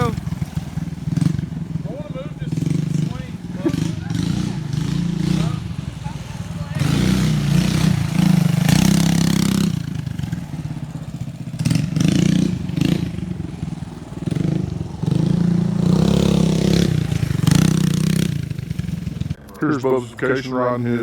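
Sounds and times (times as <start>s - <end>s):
mini bike engine revving: 0.0s - 19.4s.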